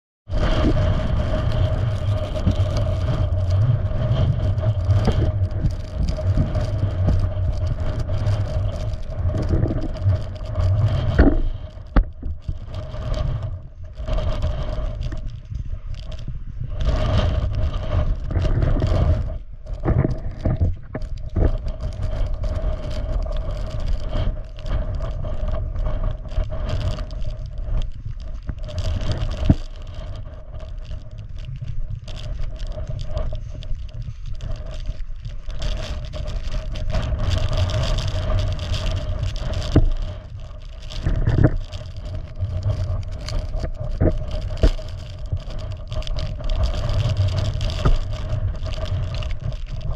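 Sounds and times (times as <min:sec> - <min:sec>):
scraping and rustling on snow: 0:00.3 - 0:49.9
wind buffeting microphone: 0:00.3 - 0:49.9.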